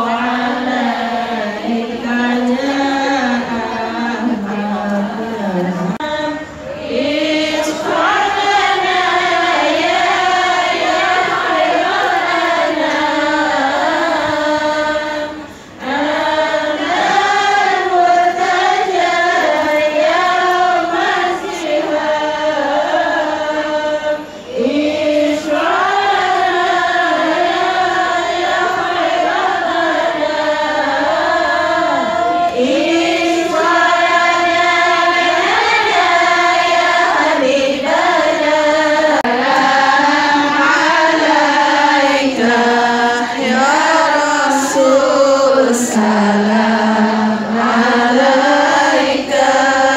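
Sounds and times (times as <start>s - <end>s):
women singing in unison: 0.0s - 49.9s.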